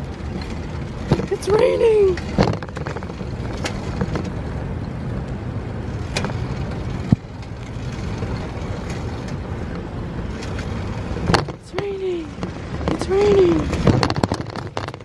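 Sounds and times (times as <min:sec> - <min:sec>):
bicycle clicks and knocks: 0:00.0 - 0:04.5, 0:05.3 - 0:15.0
wind rumble on microphone: 0:00.0 - 0:15.0.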